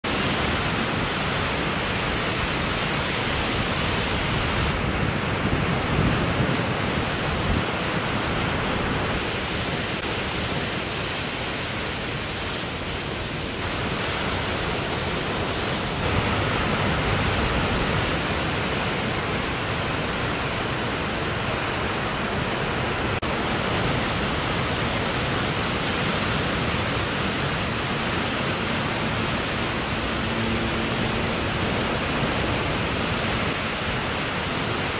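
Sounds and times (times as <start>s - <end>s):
ocean surf rushing: 0.0s - 34.9s.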